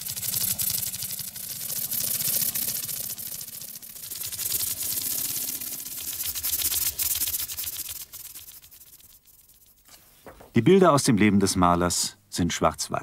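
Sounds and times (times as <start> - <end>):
fast mechanical clatter: 0.0 - 10.5
steady hiss: 0.0 - 13.0.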